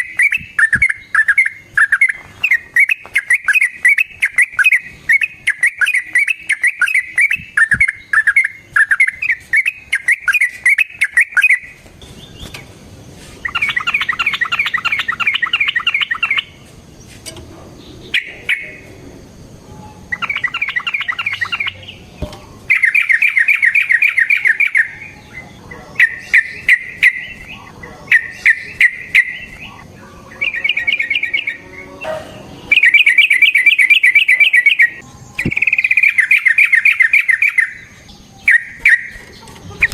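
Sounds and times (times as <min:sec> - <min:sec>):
bird singing bubbly chattering phrases: 0:00.0 - 0:12.5, 0:13.4 - 0:16.6, 0:17.8 - 0:19.0, 0:20.1 - 0:39.9.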